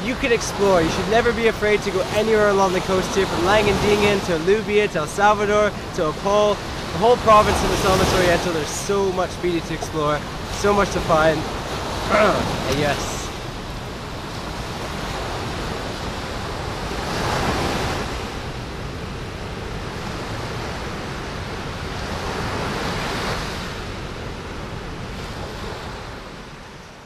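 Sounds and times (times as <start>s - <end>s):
small waves breaking on beach: 0.0s - 27.0s.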